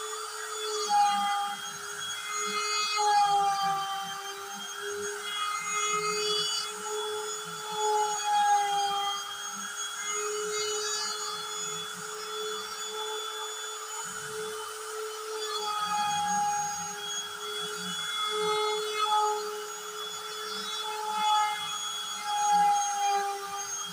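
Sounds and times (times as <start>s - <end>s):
router spindle whining while cutting: 0.0s - 23.9s.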